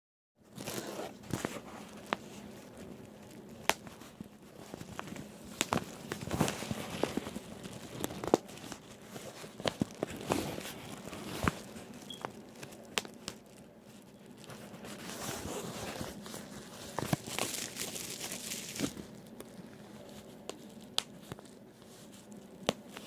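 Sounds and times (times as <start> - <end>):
bubble wrap crinkling: 0.5 - 23.0
bubble wrap popping: 0.6 - 23.0.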